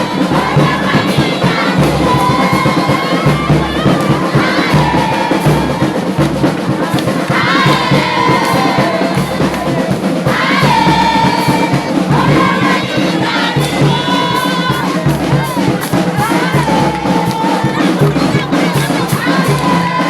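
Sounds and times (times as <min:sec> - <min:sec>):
group singing over steady beat: 0:00.0 - 0:20.0.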